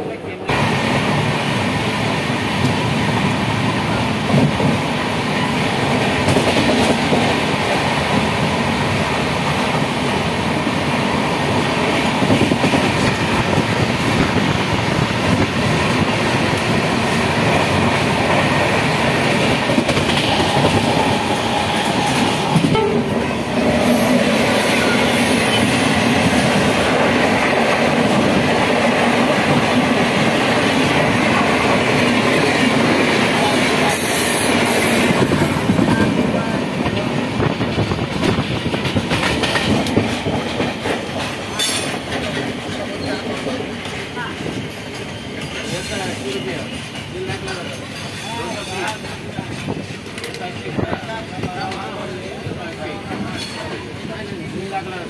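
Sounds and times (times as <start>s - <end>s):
train rumble and rattle: 0.0s - 55.0s.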